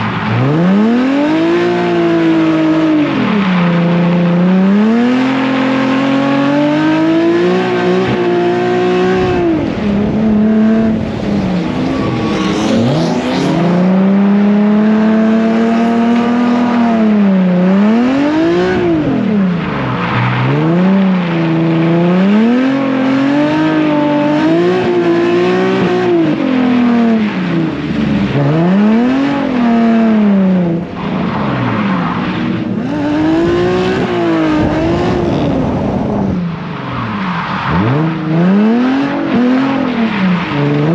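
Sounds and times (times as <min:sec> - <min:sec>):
car engine revving: 0:00.0 - 0:40.9
tyre noise on wet track: 0:00.0 - 0:40.9.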